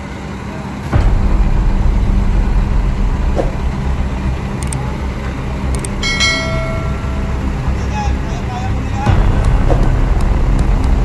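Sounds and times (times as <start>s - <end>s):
excavator diesel engine rumbling: 0.7s - 11.0s.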